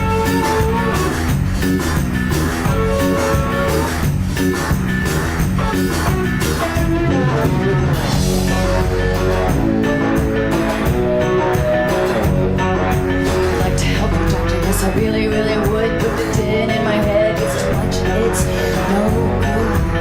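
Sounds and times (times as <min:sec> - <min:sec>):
drums with steady beat: 0:00.0 - 0:20.0
rock guitar: 0:00.0 - 0:20.0.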